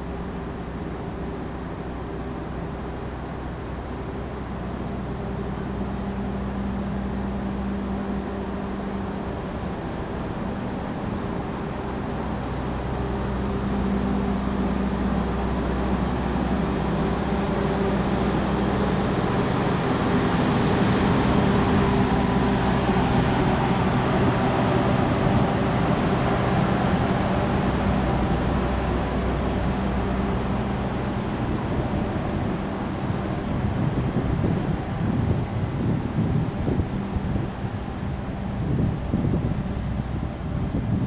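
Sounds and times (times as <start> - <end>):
diesel generator hum: 0.0 - 41.0
train wheels rumbling: 0.0 - 41.0.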